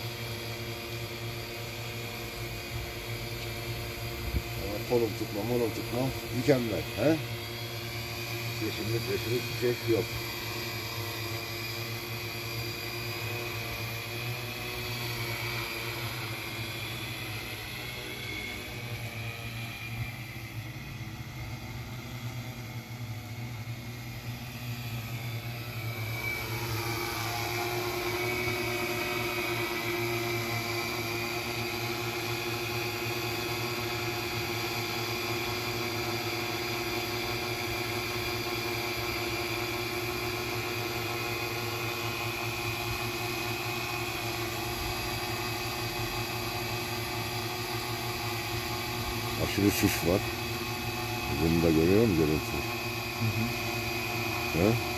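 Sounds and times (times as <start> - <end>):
drone propellers whirring: 0.0 - 54.9.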